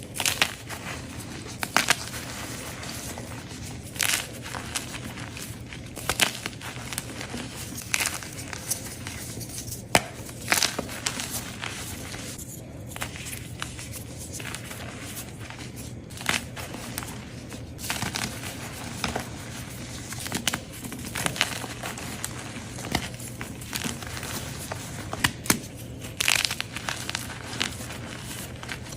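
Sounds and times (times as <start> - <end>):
chalk crunching and crumbling: 0.0 - 28.9.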